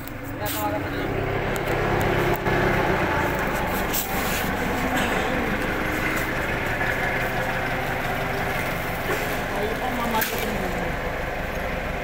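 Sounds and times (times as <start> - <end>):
steady mechanical noise: 0.0 - 12.0.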